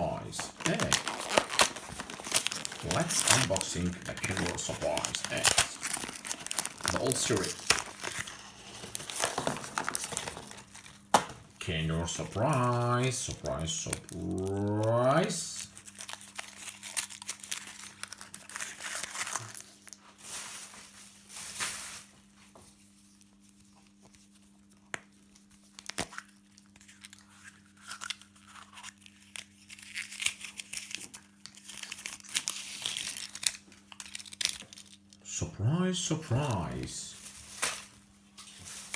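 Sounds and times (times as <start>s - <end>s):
foil wrapper crinkling: 0.0s - 38.9s.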